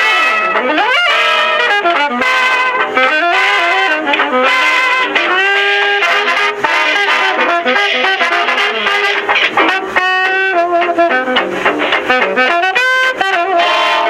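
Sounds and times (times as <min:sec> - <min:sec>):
brass music with trumpet melody: 0:00.0 - 0:14.0.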